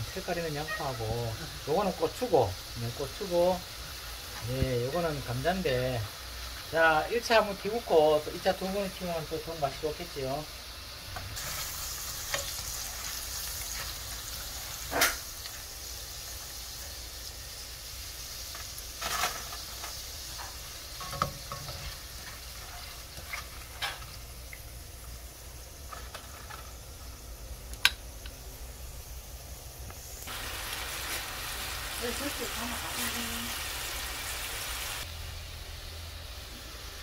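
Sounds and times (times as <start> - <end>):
hot oil sizzling: 0.0 - 37.0.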